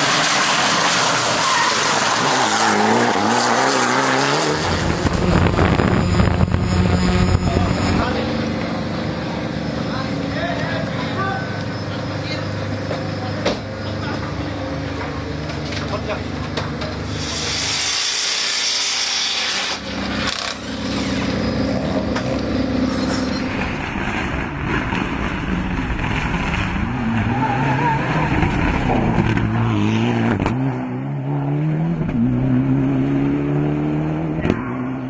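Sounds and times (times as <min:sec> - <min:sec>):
rally car engine revving: 0:00.0 - 0:18.0, 0:19.7 - 0:35.0.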